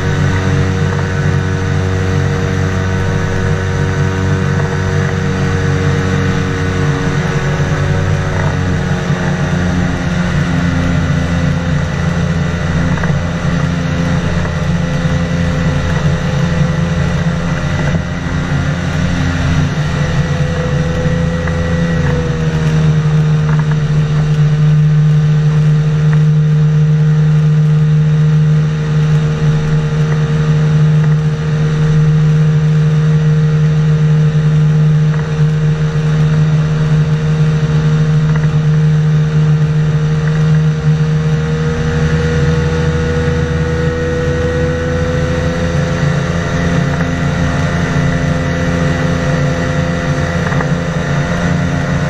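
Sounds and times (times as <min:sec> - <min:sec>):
ultralight engine and propeller: 0:00.0 - 0:52.0.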